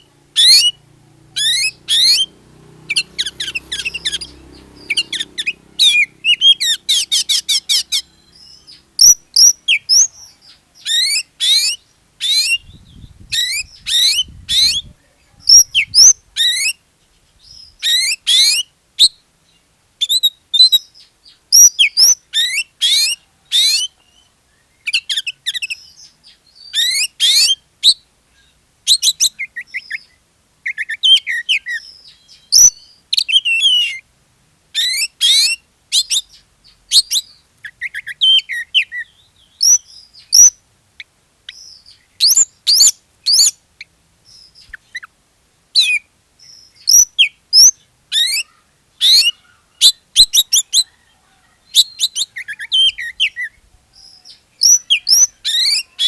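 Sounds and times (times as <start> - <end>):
magpie-robin singing: 0.0 - 34.1, 34.8 - 45.2, 45.8 - 56.0.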